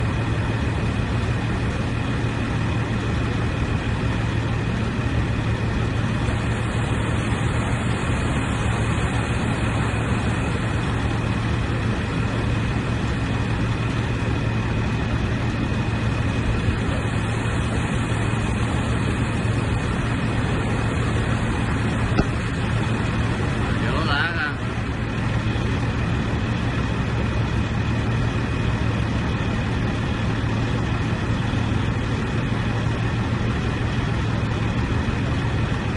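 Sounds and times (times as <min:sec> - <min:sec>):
industrial machinery roar: 0:00.0 - 0:35.9.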